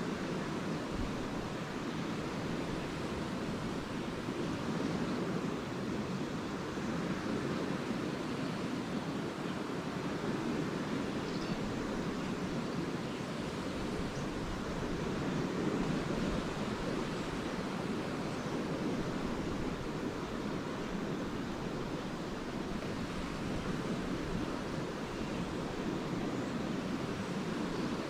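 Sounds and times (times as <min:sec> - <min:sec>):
lake waves washing onto beach: 0:00.0 - 0:28.0.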